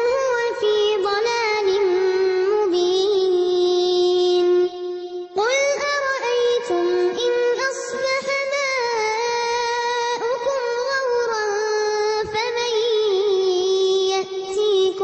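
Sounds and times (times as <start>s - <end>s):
girl reciting melodically: 0.0s - 15.0s.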